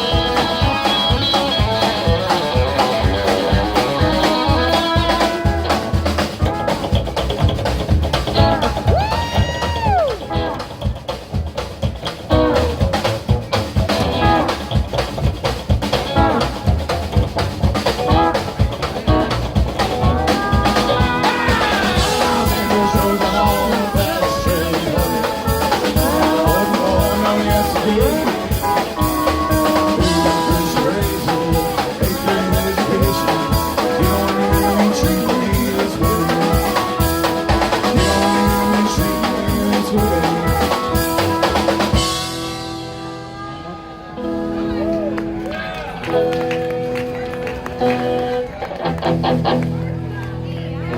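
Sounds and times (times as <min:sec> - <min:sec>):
driving drum beat: 0:00.0 - 0:43.6
live band playing fast song: 0:00.0 - 0:50.9.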